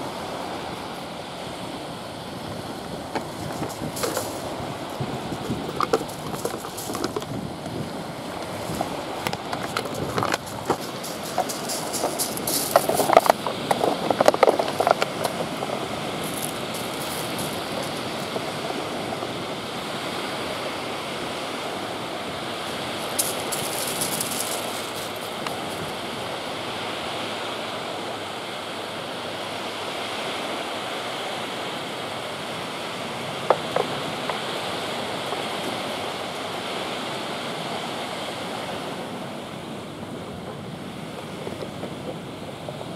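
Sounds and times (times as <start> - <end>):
small waves lapping on shingle: 0.0 - 39.4
wind: 0.0 - 42.9.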